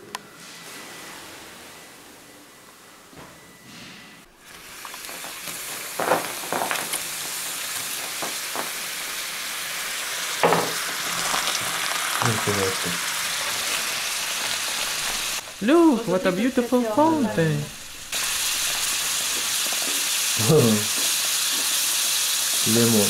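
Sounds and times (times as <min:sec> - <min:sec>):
liquid nitrogen boiling hiss: 0:04.3 - 0:23.0.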